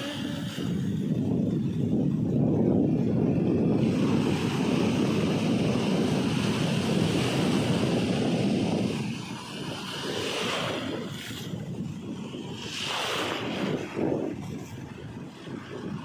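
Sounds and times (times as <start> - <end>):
surf breaking on shore: 0.0 - 16.0
wind rumble on microphone: 0.0 - 16.0.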